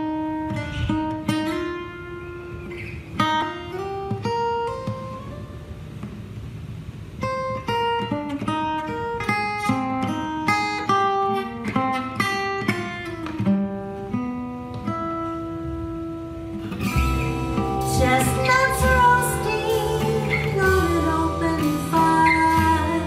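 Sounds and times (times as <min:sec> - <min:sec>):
acoustic guitar picking: 0:00.0 - 0:23.0.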